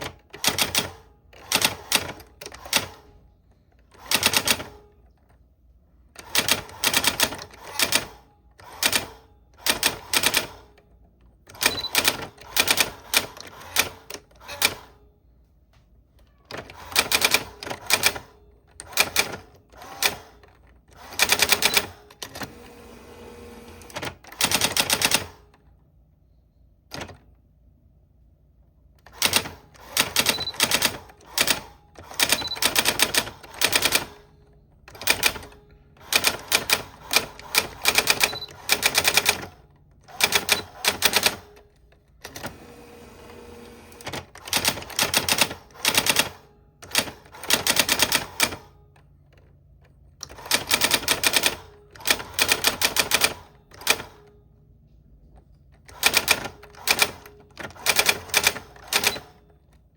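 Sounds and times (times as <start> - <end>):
typewriter keystrokes: 0.0 - 3.1, 3.8 - 5.1, 6.2 - 10.8, 11.5 - 14.9, 16.3 - 22.5, 23.7 - 25.6, 26.9 - 27.3, 29.0 - 42.6, 43.9 - 54.4, 55.8 - 59.9.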